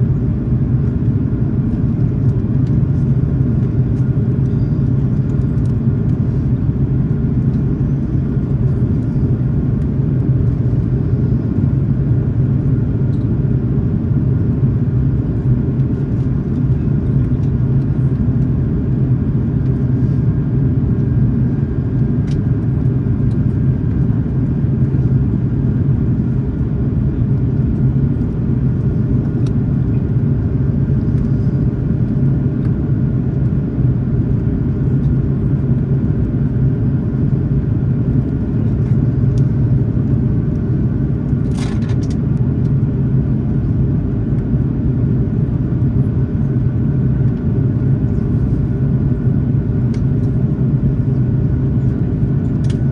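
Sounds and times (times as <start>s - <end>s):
faint higher hum: 0.0s - 52.9s
jet engine cabin drone: 0.0s - 52.9s.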